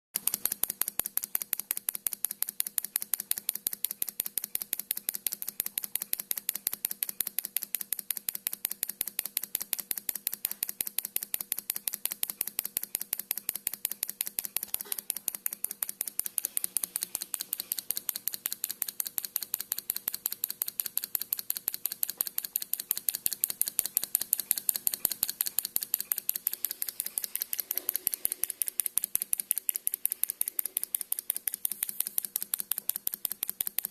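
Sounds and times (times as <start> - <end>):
model engine clicking rapidly: 0.2 - 33.9.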